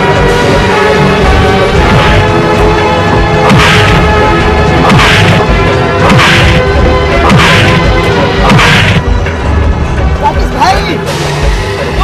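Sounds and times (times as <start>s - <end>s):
film background score: 0.0s - 12.0s.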